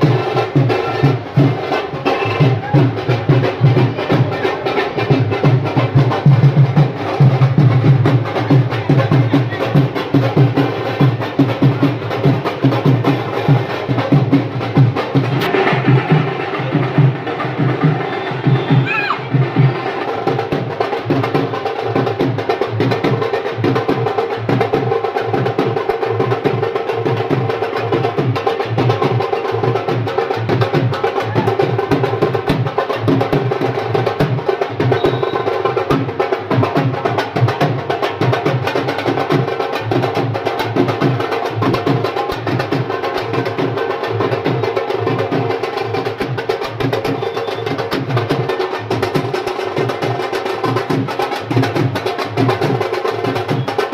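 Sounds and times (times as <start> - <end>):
fast percussive music: 0.0 - 53.9.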